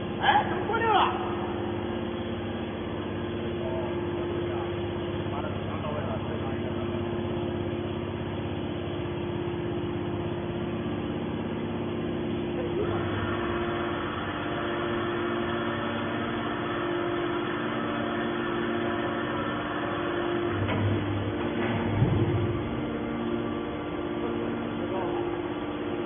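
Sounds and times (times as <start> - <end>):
can baler machine hum: 0.0 - 26.0.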